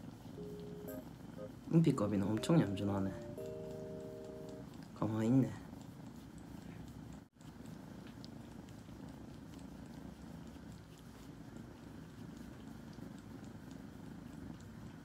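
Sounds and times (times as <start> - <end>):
kitten purring: 0.0 - 15.0.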